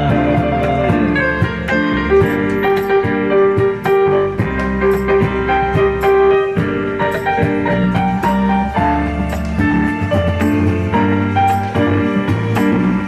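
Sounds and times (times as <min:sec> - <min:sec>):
reggae keyboard chords: 0:00.0 - 0:13.0
steady drum beat: 0:00.0 - 0:13.0.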